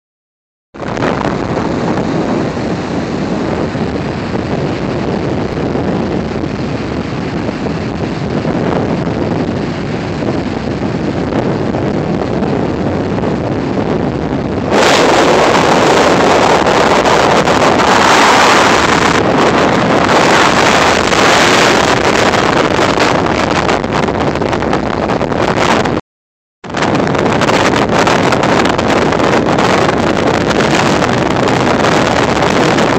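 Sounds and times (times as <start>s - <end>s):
ocean surf: 0.8s - 26.0s, 26.7s - 32.9s
wind on microphone: 0.8s - 26.0s, 26.6s - 32.9s.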